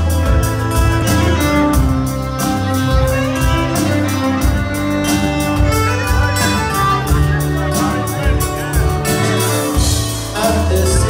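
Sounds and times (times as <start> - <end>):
bass: 0.0 - 11.0
electric guitar: 0.0 - 11.0
fiddle melody: 0.0 - 11.0
steady drum beat: 0.0 - 11.0
strummed acoustic guitar: 0.0 - 11.0.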